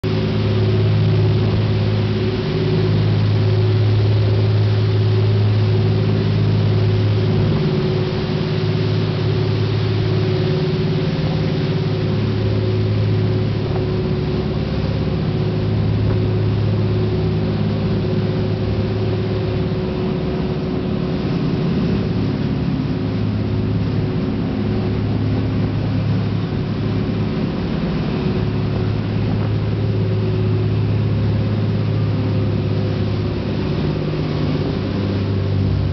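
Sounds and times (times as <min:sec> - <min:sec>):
boat engines droning: 0:00.0 - 0:35.9
churning wake rushing: 0:00.0 - 0:35.9
wind over deck: 0:00.0 - 0:35.9.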